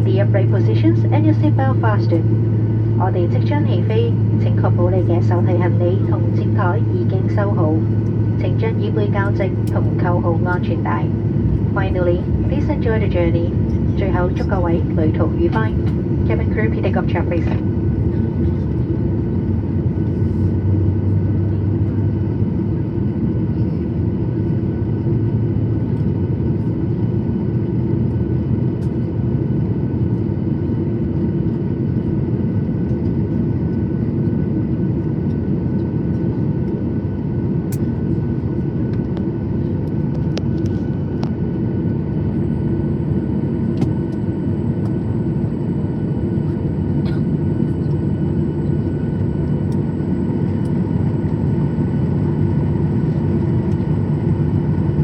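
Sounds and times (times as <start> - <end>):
constant engine whine: 0.0 - 55.0
jet engines rumbling in cabin: 0.0 - 55.0.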